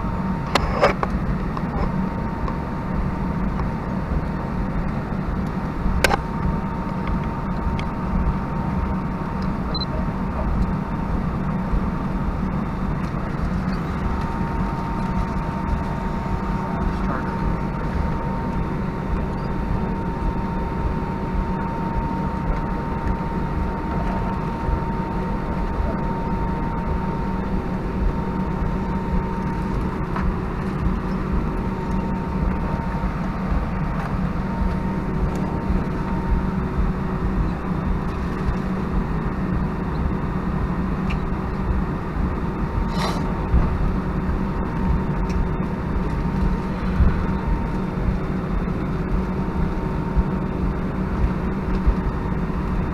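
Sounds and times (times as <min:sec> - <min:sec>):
faint steady tones: 0:00.0 - 0:52.9
jet engines idling hum: 0:00.0 - 0:52.9.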